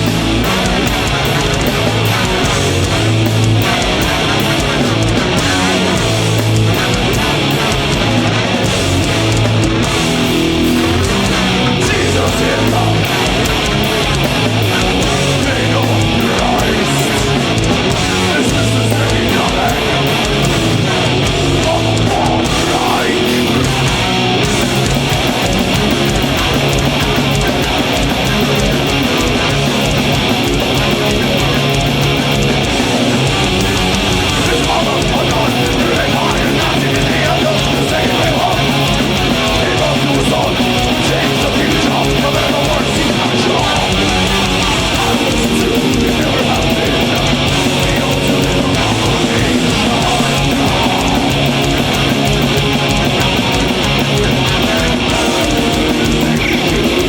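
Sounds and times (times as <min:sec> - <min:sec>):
heavy metal band playing: 0:00.0 - 0:57.0.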